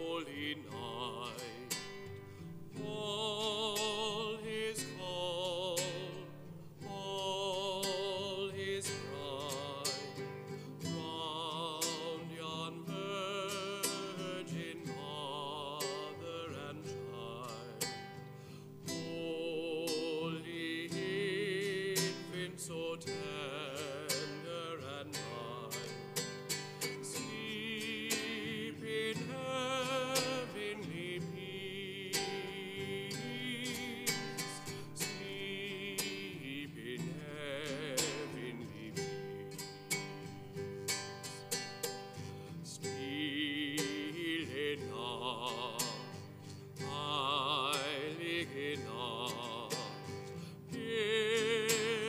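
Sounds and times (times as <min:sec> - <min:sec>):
acoustic guitar: 0:00.0 - 0:52.0
person singing with vibrato: 0:00.0 - 0:52.0.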